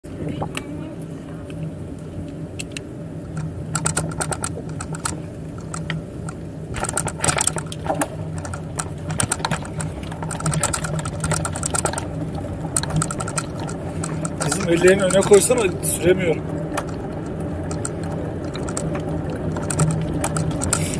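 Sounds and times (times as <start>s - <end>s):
steady low hum: 0.0s - 20.9s
bicycle rattling and clicking: 1.5s - 20.9s.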